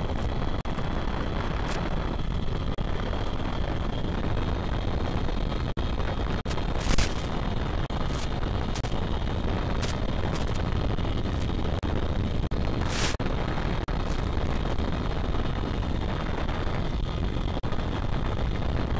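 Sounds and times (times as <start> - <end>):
loud radio rumbling noise: 0.0 - 18.9.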